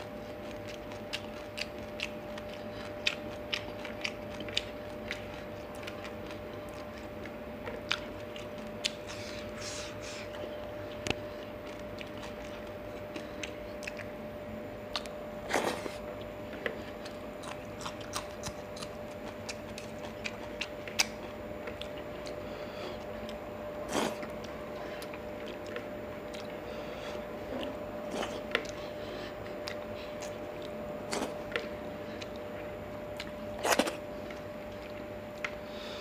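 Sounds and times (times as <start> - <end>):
man chewing with lip smacks: 0.0 - 36.0.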